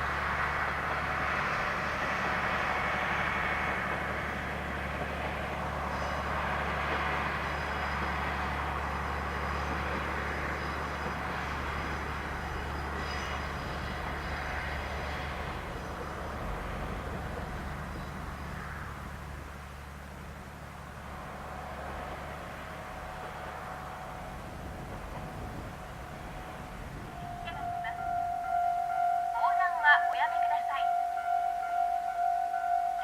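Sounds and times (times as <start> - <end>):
diesel railcar engine and rails: 0.0 - 33.0.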